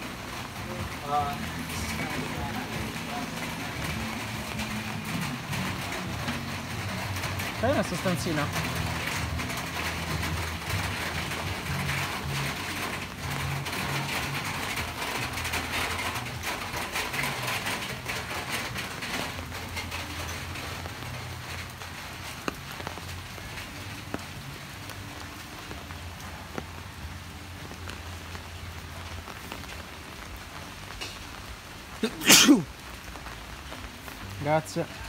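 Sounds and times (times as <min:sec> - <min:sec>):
rain on wet pavement and foliage: 0:00.0 - 0:35.0.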